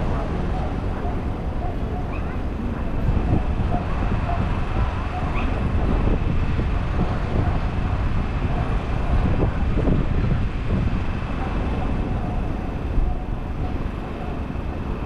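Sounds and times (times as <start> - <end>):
faint voices: 0.0 - 15.0
wind buffeting microphone: 0.0 - 15.0.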